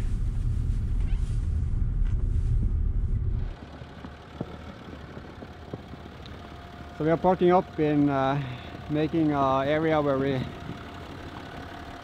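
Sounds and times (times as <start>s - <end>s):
car interior low rumble: 0.0s - 12.0s
low hum: 0.0s - 12.0s.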